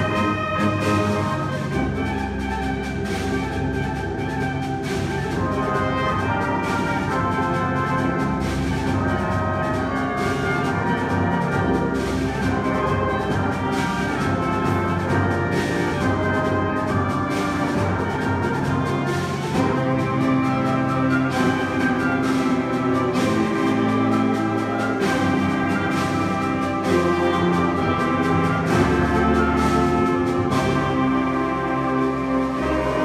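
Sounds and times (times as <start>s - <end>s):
concert band playing: 0.0s - 33.0s
percussion strokes: 0.0s - 33.0s.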